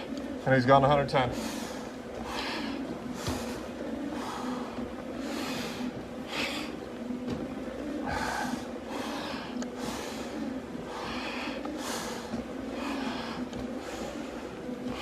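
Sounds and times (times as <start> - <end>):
steady low hum: 0.0 - 15.0
person breathing hard: 1.3 - 6.9, 7.9 - 15.0.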